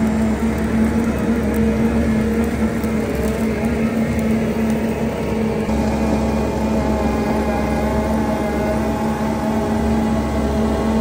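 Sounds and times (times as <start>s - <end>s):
loader engine under load: 0.0s - 11.0s
milling attachment grinding grass: 0.0s - 11.0s.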